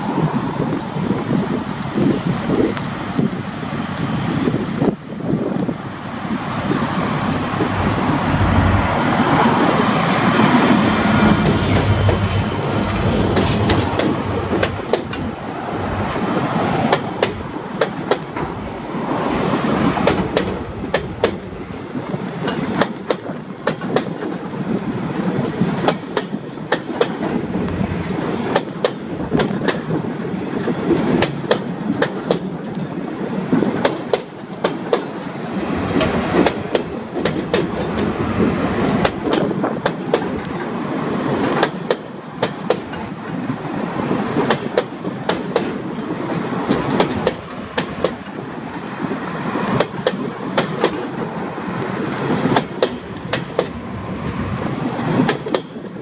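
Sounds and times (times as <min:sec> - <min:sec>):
train rumble: 0:00.0 - 0:56.0
wheels clacking over rail joints: 0:06.7 - 0:56.0.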